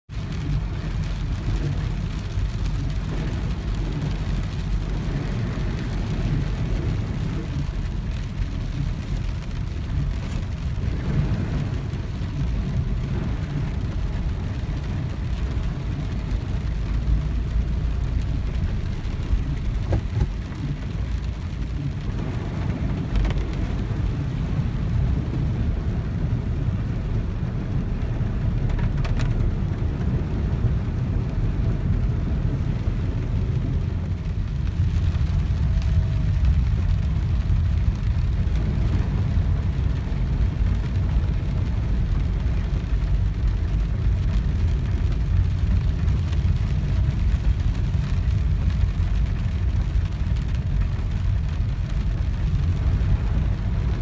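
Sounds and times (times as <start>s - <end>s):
car interior rumble: 0.0s - 54.0s
rain on windscreen: 0.0s - 54.0s
tyres on wet tarmac: 0.1s - 54.0s.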